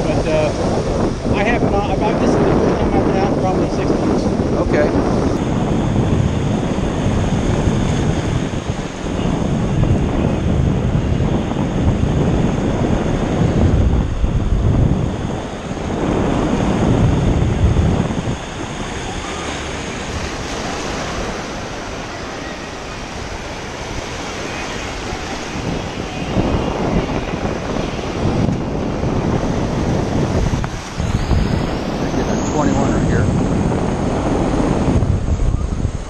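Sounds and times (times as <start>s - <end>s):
ocean surf washing over sand: 0.0s - 36.0s
wind buffeting microphone: 0.0s - 36.0s.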